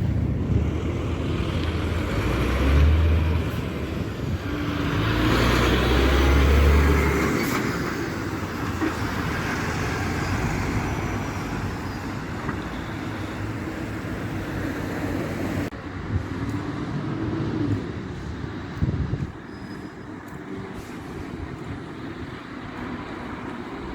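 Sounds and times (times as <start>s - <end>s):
trucks driving past: 0.0s - 23.9s.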